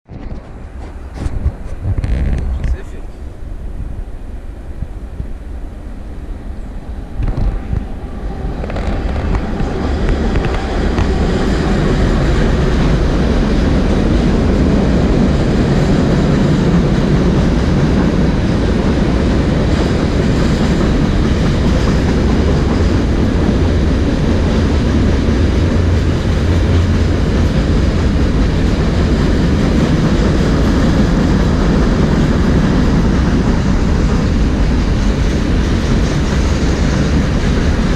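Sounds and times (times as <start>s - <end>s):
train passing rumble: 0.1s - 37.9s.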